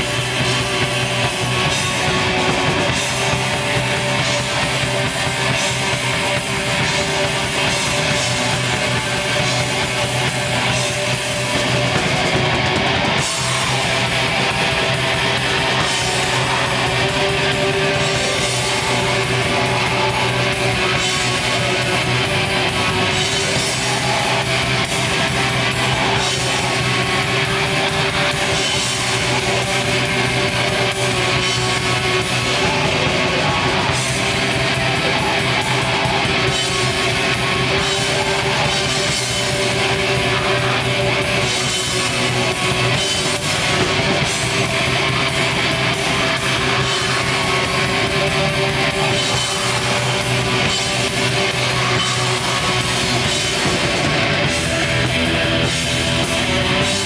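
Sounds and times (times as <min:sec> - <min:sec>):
metal band playing live: 0:00.0 - 0:57.0.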